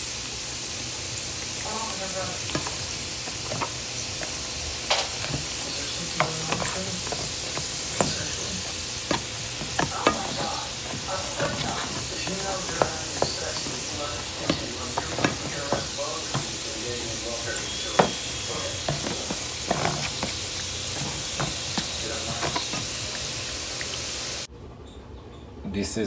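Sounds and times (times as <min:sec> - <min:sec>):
hot oil sizzling in a pan: 0:00.0 - 0:24.5.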